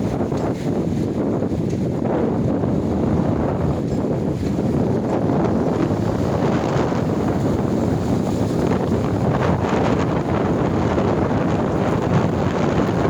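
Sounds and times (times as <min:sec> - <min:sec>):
lake waves breaking: 0:00.0 - 0:13.0
storm wind buffeting microphone: 0:00.0 - 0:13.0.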